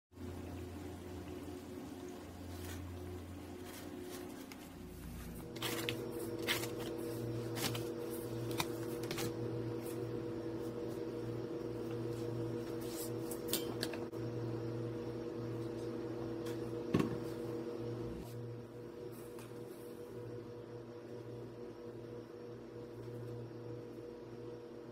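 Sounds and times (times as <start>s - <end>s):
steady low hum: 0.2s - 24.9s.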